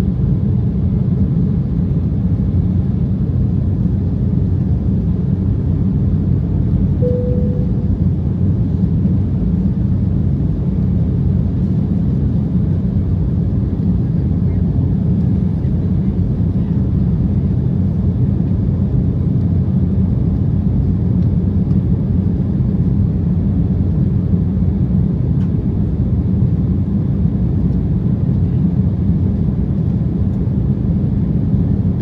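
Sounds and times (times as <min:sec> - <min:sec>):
airliner cabin engine rumble: 0:00.0 - 0:32.0.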